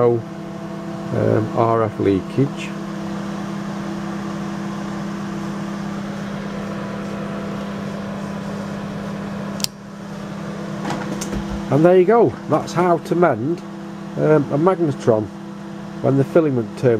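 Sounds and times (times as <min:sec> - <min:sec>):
microwave oven hum: 0:00.0 - 0:16.9.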